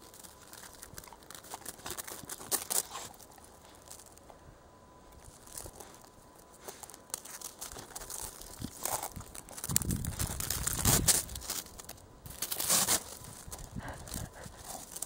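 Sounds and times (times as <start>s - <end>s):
puppy pawing in snow: 0.0s - 4.2s, 5.2s - 15.0s.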